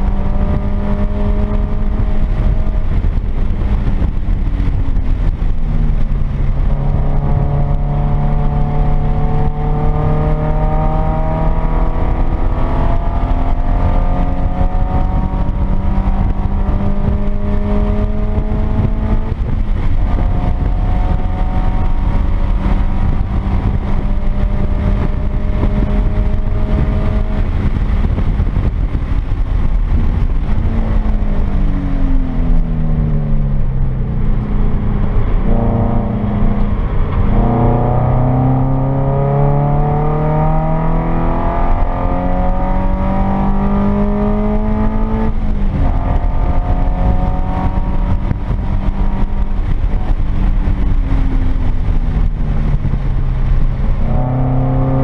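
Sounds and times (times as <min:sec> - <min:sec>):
car engine revving: 0:00.0 - 0:55.0
tyre and road rumble: 0:00.0 - 0:55.0.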